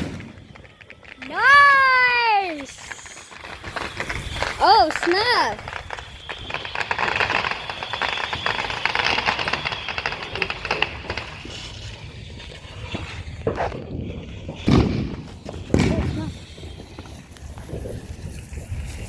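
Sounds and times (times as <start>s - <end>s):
fireworks crackling: 0.0s - 19.0s
loud firework bangs: 0.0s - 19.0s.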